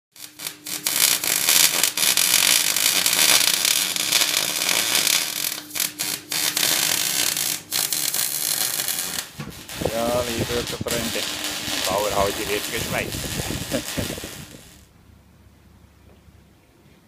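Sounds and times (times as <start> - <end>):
welding arc crackling: 0.1 - 14.9.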